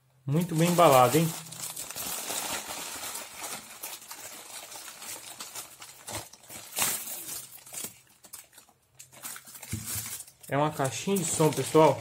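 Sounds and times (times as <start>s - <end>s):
plastic packaging crinkling: 0.3s - 12.0s.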